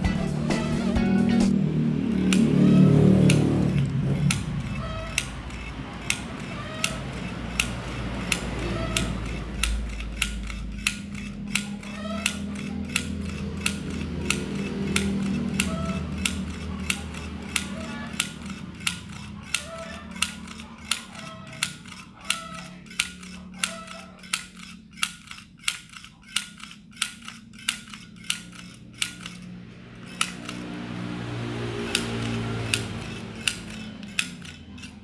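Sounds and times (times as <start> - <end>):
mini sewing machine clicking: 2.1 - 35.0.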